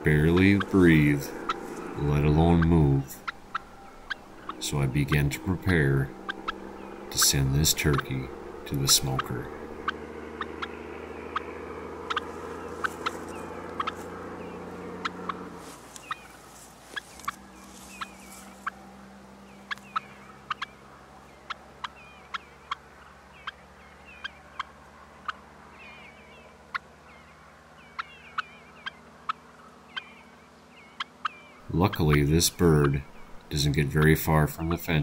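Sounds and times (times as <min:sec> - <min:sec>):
wild turkeys clucking: 0:00.0 - 0:35.0.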